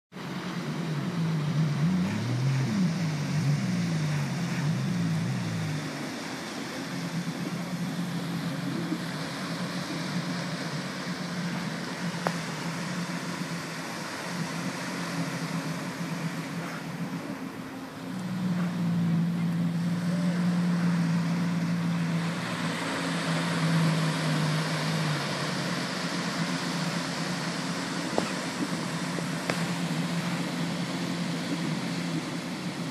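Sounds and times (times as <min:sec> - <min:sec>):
jet ski engine running: 0:00.1 - 0:32.9
wind: 0:00.1 - 0:32.9
small waves washing: 0:00.2 - 0:32.9.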